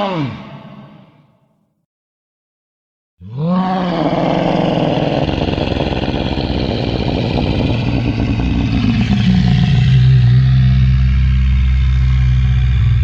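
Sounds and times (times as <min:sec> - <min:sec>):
dinosaur bellow: 0:00.0 - 0:01.3, 0:03.2 - 0:13.0.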